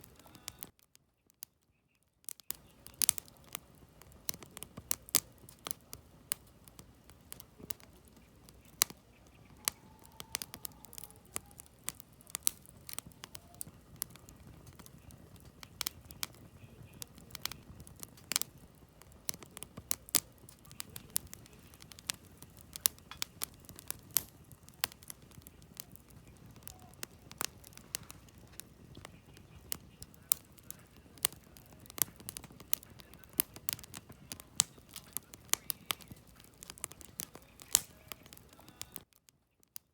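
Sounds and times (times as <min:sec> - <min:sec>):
campfire logs crackling and popping: 0:00.0 - 0:39.9
low rush of flame: 0:02.5 - 0:39.1.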